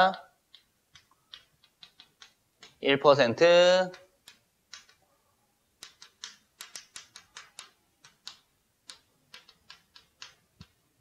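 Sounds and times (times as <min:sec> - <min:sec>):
chalk tapping and scratching: 0:00.5 - 0:02.9, 0:03.8 - 0:05.0, 0:05.8 - 0:11.0.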